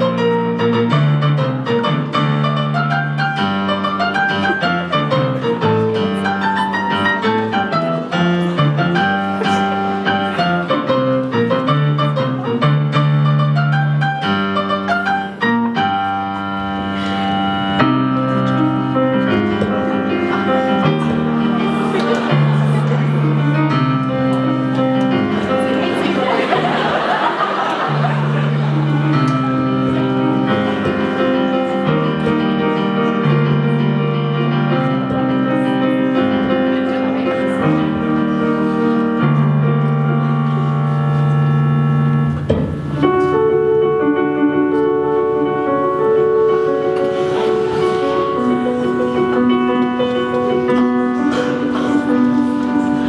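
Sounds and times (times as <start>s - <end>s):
solo piano piece: 0.0s - 53.0s.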